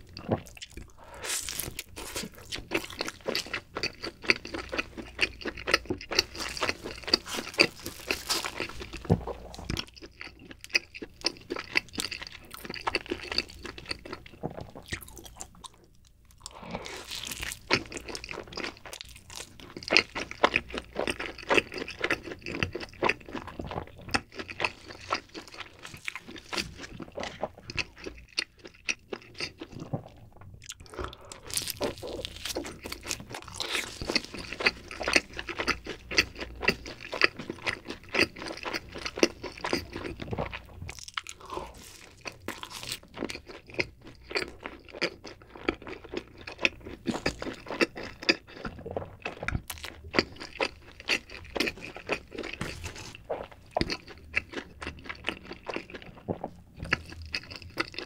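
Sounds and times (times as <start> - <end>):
pizza crunching and chewing: 0.0 - 58.0.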